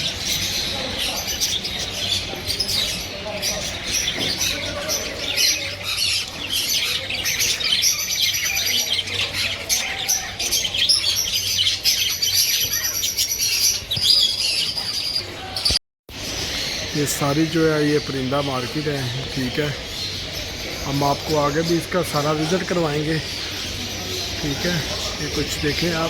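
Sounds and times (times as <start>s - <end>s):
caged birds chirping: 0.0s - 26.0s.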